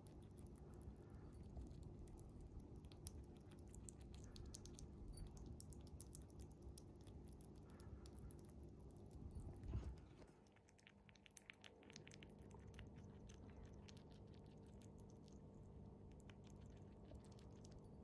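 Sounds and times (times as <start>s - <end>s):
chipmunk chewing wet clicks: 0.0s - 18.0s.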